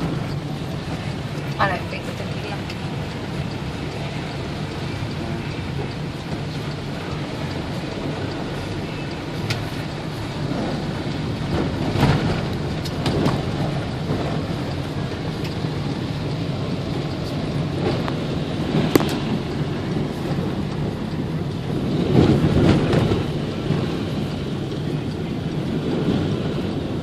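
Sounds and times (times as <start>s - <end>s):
heavy rain on car: 0.0s - 27.0s
road noise: 0.0s - 27.0s
sharp raindrop clicks: 0.0s - 27.0s.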